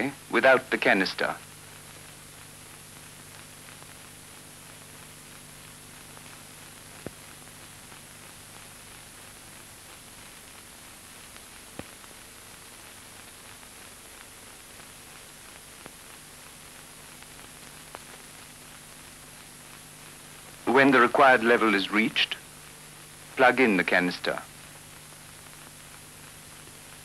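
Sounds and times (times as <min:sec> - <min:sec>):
film soundtrack hiss: 0:00.0 - 0:27.0
mains hum: 0:00.0 - 0:27.0.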